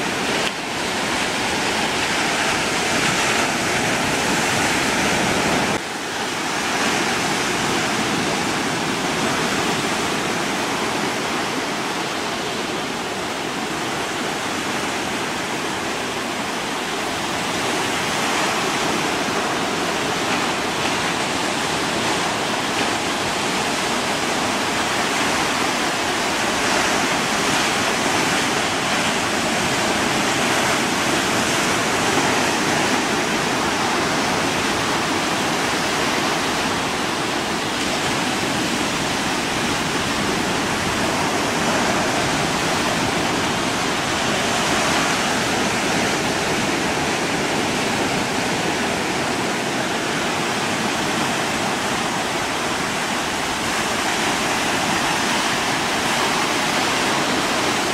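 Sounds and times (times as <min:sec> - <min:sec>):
waves: 0:00.0 - 0:57.9
wind: 0:00.0 - 0:57.9.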